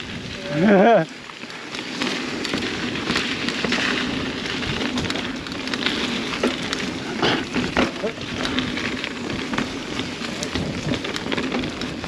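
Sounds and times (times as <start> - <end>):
bike clicking and rattling: 0.0 - 12.0
bike tyres crunching on gravel: 0.0 - 12.0.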